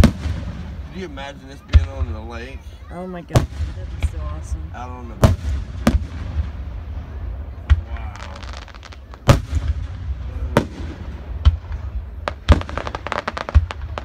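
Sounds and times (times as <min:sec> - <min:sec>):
fireworks bangs: 0:00.0 - 0:14.0
fireworks crackle: 0:00.0 - 0:14.0.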